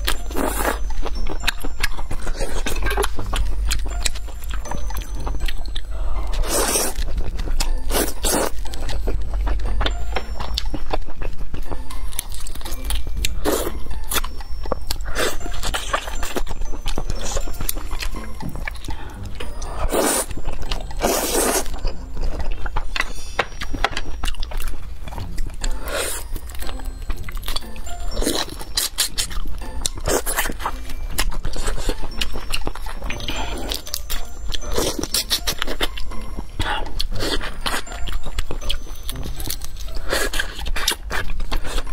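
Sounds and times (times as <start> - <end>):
chewing: 0.0 - 41.9.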